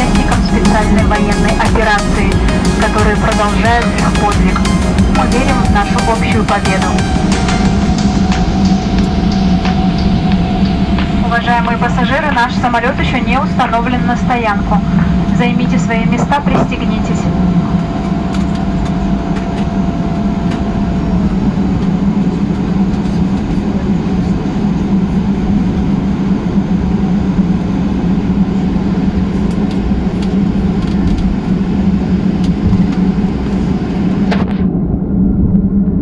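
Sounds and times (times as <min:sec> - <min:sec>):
airplane cabin drone: 0:00.0 - 0:36.0.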